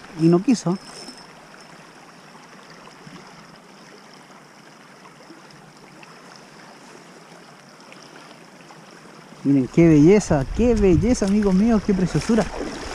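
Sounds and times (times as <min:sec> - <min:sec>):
shallow river rushing over riffles: 0:00.0 - 0:12.9.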